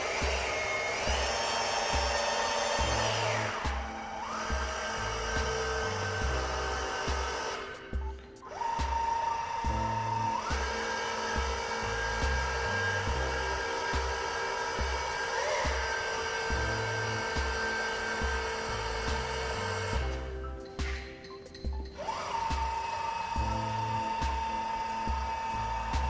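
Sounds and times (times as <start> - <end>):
small electric motor whining: 0.0 - 21.1, 21.9 - 26.0
music with bass beat: 0.0 - 26.0.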